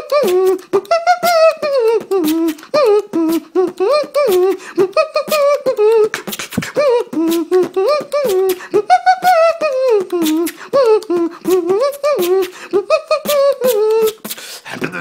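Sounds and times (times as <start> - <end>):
hummed melody: 0.0 - 14.2
beatboxing percussion: 0.0 - 15.0.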